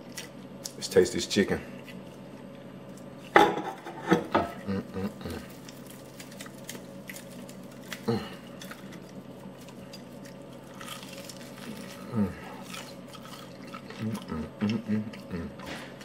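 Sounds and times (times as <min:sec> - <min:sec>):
crunching fried chicken: 0:00.0 - 0:03.3, 0:04.6 - 0:16.0.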